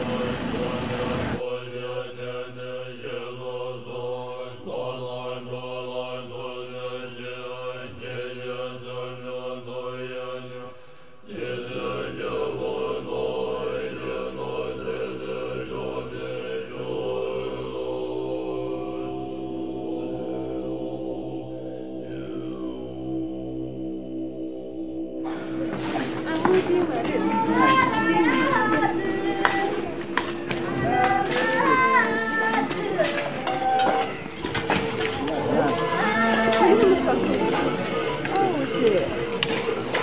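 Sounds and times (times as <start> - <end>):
mantra chanting: 0.0 - 33.4, 34.3 - 40.0
steady drone: 0.0 - 40.0.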